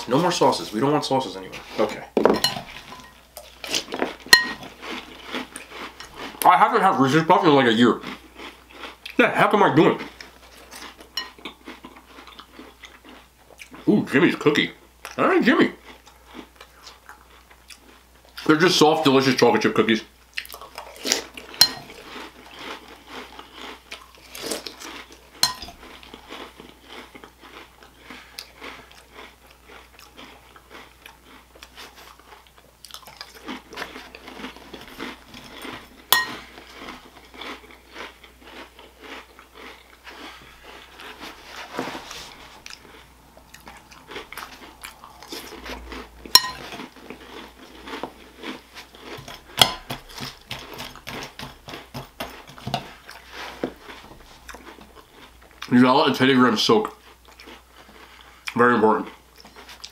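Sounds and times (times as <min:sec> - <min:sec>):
person chewing crunchy food: 0:00.0 - 0:18.7, 0:20.0 - 0:59.9.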